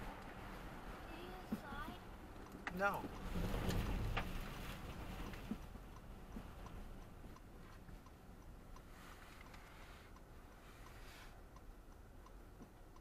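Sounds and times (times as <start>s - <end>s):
tyres and wind rumbling: 0.0s - 13.0s
faint regular ticking: 0.1s - 13.0s.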